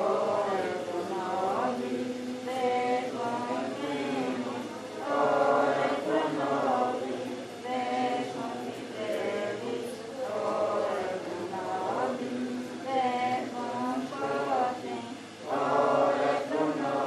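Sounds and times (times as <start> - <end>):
group singing a devotional chant: 0.0 - 17.0.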